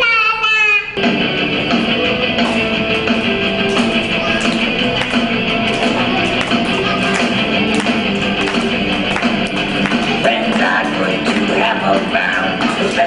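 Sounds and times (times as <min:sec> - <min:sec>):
upbeat guitar music with beat: 0:01.0 - 0:13.0.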